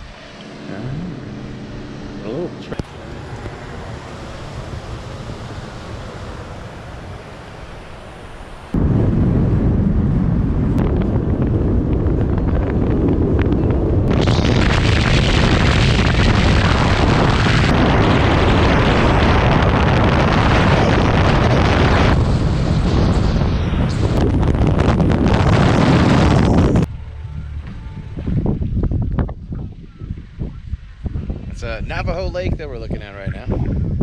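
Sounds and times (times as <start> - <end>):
road noise: 0.0 - 34.0
wind buffeting microphone: 0.0 - 34.0.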